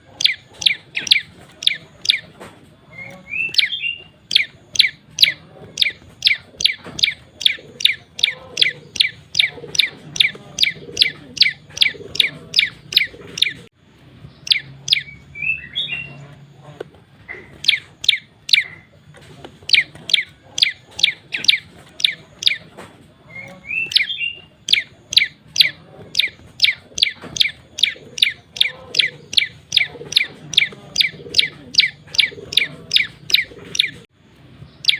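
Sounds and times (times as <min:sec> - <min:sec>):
bird singing sharp chip notes: 0:00.0 - 0:16.5, 0:17.3 - 0:19.0, 0:19.6 - 0:34.9
bird twittering phrase: 0:00.1 - 0:02.3, 0:02.9 - 0:13.7, 0:14.4 - 0:16.3, 0:17.3 - 0:18.9, 0:19.6 - 0:22.7, 0:23.3 - 0:34.0.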